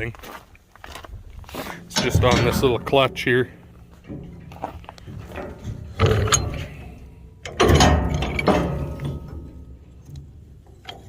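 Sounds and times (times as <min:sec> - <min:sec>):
metal clanking: 0:01.5 - 0:11.0.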